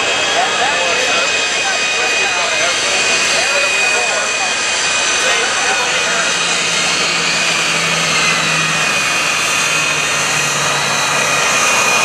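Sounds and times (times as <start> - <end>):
high turbine whine: 0.0 - 12.0
propeller drone: 0.0 - 12.0.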